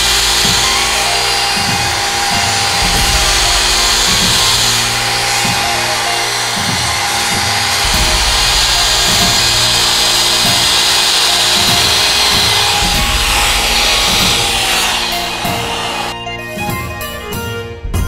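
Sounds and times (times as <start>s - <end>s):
wood router running: 0.0s - 16.2s
background music with steady beat: 0.0s - 18.0s.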